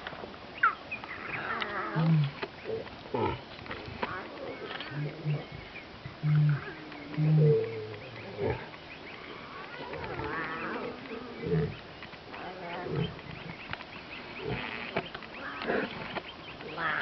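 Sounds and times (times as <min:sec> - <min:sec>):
lions growling and calling: 0:00.6 - 0:17.0.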